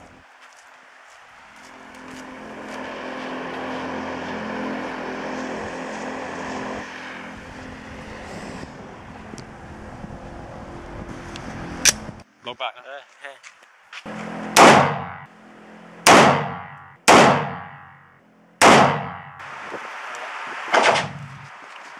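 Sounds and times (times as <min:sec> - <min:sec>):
vehicle engine humming: 0:00.0 - 0:12.3, 0:14.0 - 0:21.9.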